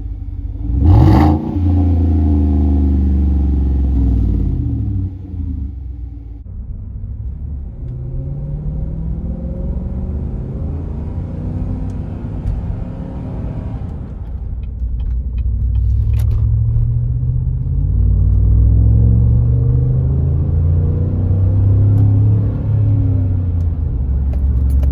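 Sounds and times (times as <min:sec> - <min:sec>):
truck exhaust rumbling: 0:00.0 - 0:24.9.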